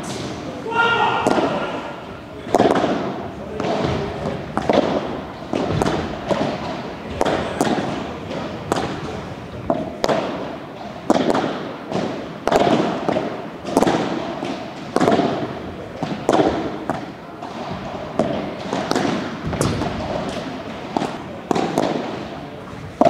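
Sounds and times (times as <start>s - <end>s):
ball bouncing on court: 0.0s - 23.0s
padel ball struck with rackets: 1.0s - 1.9s, 2.5s - 22.3s.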